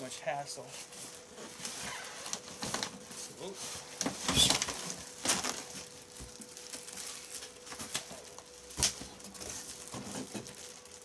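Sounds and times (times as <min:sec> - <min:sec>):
plastic bag crinkling: 0:01.1 - 0:11.0.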